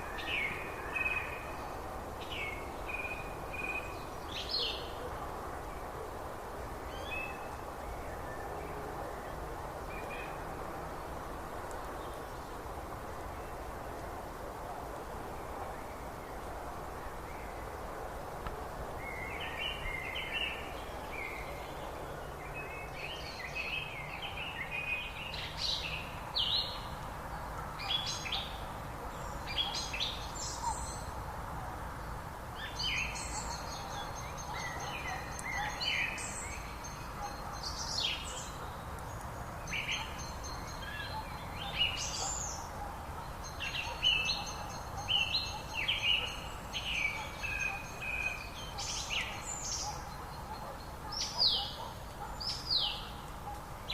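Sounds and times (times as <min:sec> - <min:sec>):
songbirds singing: 0:00.0 - 0:53.9
steady background hiss: 0:00.0 - 0:53.9.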